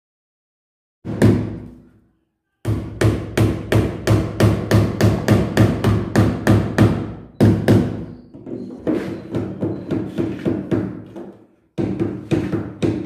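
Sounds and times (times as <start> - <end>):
hammer nailing into wood: 1.1 - 1.8, 2.7 - 13.0.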